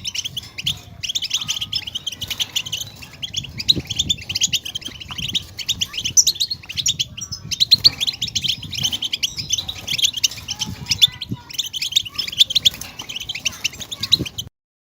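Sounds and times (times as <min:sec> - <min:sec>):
goldfinch twittering song: 0:00.0 - 0:14.5.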